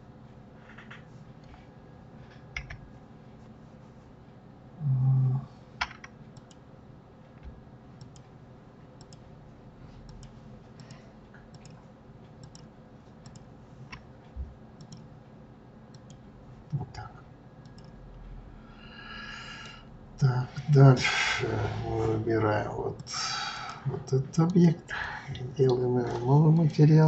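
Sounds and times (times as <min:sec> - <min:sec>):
faint room hiss: 0:00.0 - 0:27.0.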